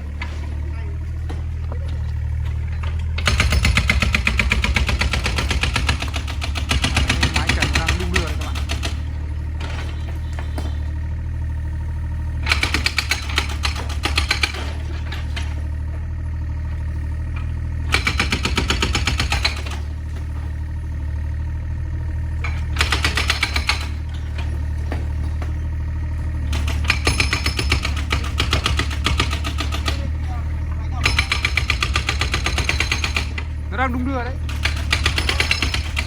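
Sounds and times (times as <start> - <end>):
diesel engine running: 0.0 - 36.0
excavator clattering: 0.0 - 36.0.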